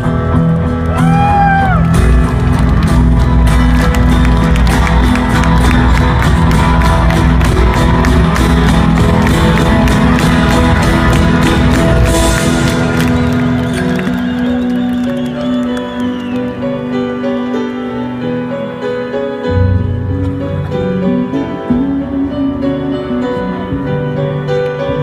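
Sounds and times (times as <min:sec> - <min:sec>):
sustained guitars: 0:00.0 - 0:25.0.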